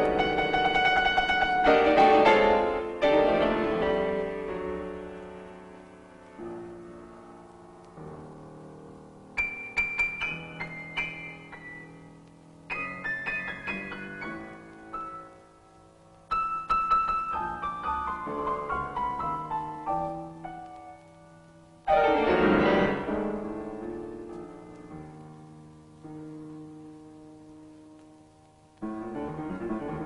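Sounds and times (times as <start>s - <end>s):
solo piano playing: 0.0s - 30.0s.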